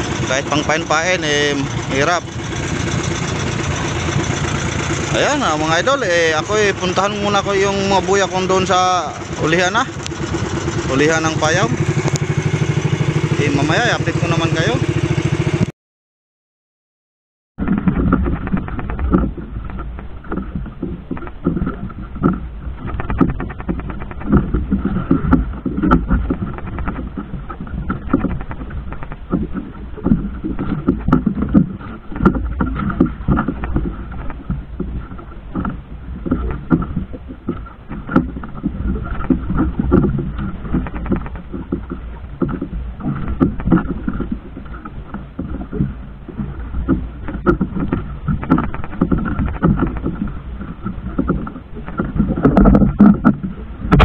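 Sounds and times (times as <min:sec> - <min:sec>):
boat motor running: 0:00.0 - 0:15.7, 0:17.6 - 0:54.0
water noise: 0:00.0 - 0:15.7, 0:17.6 - 0:54.0
wind: 0:00.0 - 0:15.7, 0:17.6 - 0:54.0.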